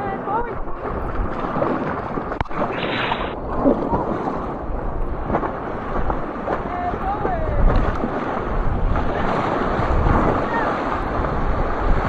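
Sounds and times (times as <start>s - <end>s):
whitewater rushing: 0.0s - 4.7s, 5.6s - 12.0s
wind buffeting microphone: 0.0s - 12.0s.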